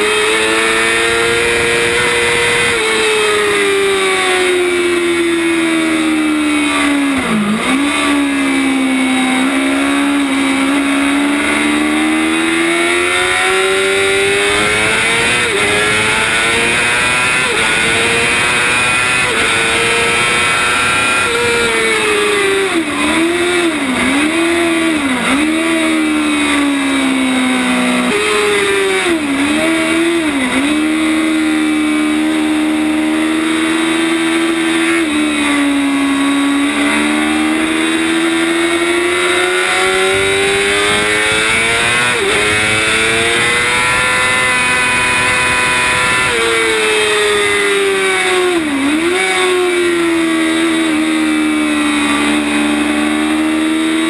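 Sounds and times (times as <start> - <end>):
sport bike engine revving: 0.0 - 54.0.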